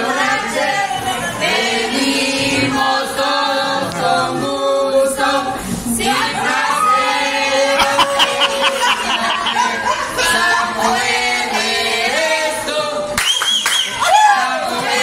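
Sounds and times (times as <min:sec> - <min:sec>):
group singing in chorus: 0:00.0 - 0:13.2, 0:14.6 - 0:15.0.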